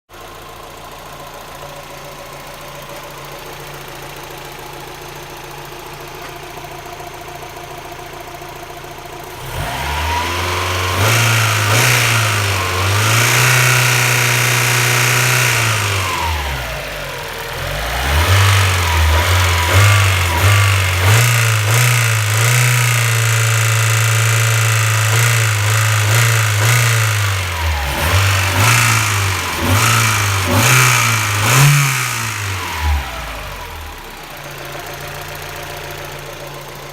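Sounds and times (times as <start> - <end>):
car engine idling and revving: 0.1 - 36.9.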